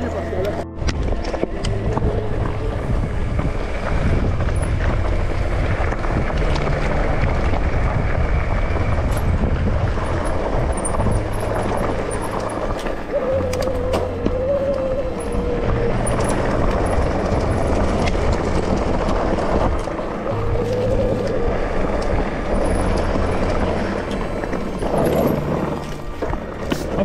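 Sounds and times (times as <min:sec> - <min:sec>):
bike rolling on dirt trail: 0:00.0 - 0:27.0
wavering whine: 0:00.0 - 0:27.0
wind on microphone: 0:00.3 - 0:27.0.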